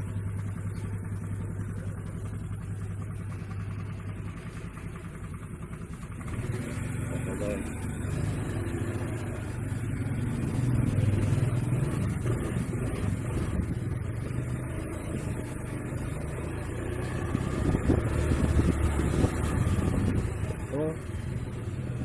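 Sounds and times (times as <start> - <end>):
scooter engine revving: 0.0 - 22.0.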